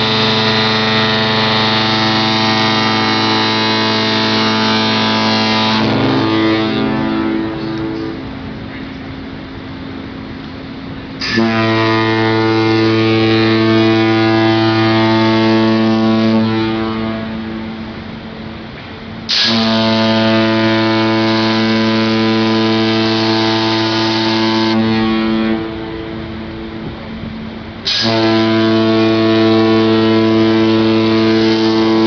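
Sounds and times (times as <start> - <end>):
ship's horn long deep blasts: 0.0 - 32.0.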